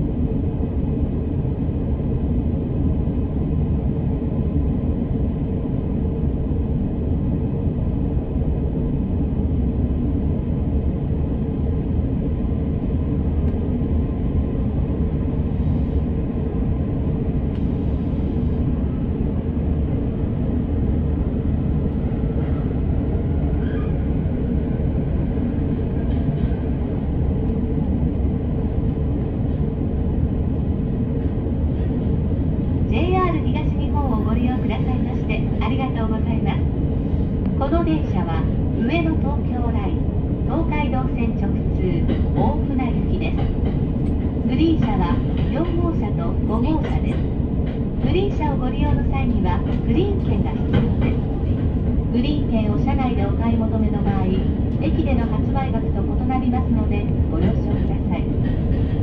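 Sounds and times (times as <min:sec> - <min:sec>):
train car low rumble: 0:00.0 - 0:59.0.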